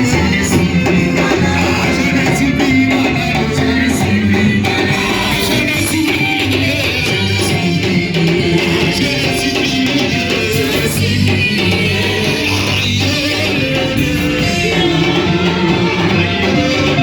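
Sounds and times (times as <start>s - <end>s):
worship band with singing: 0.0s - 17.0s.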